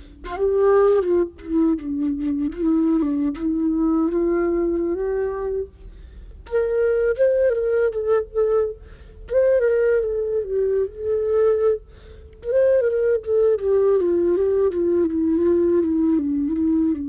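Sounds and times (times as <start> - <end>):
solo flute melody: 0.0 - 17.0.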